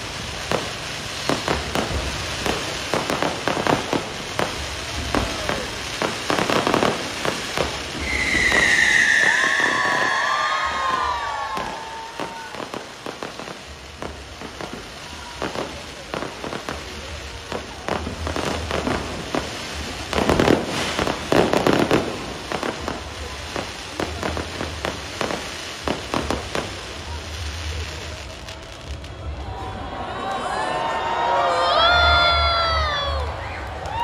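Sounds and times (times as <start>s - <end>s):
fireworks popping and banging: 0.0s - 29.6s.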